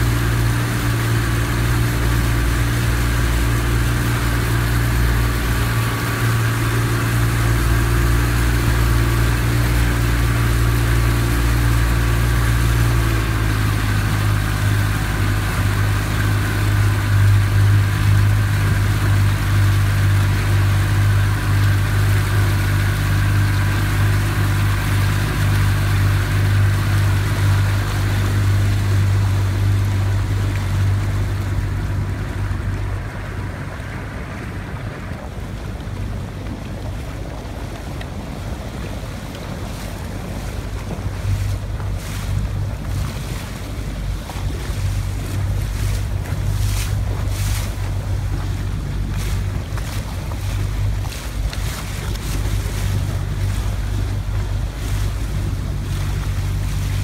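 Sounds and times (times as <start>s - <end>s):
boat engine humming: 0.0s - 57.0s
water lapping: 0.0s - 57.0s
water rushing in wake: 0.0s - 57.0s.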